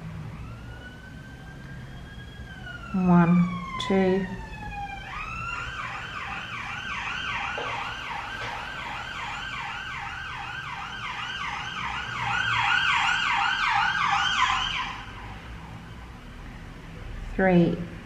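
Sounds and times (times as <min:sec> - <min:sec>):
emergency siren yelping: 0:00.0 - 0:16.1.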